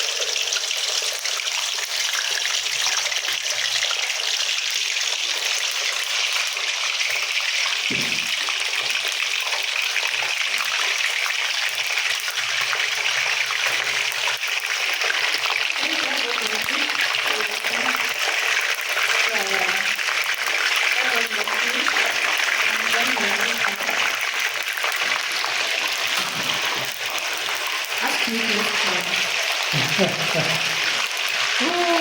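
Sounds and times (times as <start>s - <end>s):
fish sizzling in hot oil: 0.0s - 32.0s.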